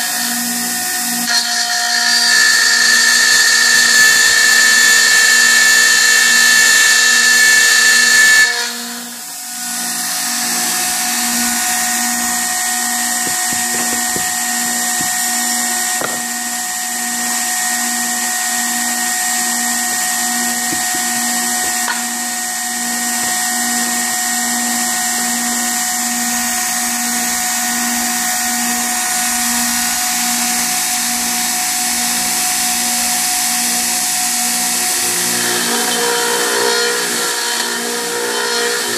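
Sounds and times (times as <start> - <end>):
router milling metal whine: 0.0 - 38.9.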